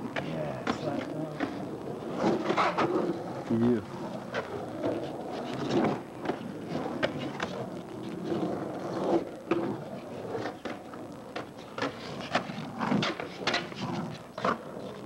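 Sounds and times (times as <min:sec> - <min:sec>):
skateboard wheels rolling on concrete: 0:00.0 - 0:15.0
skateboard clacks and knocks: 0:00.1 - 0:03.2, 0:04.2 - 0:15.0.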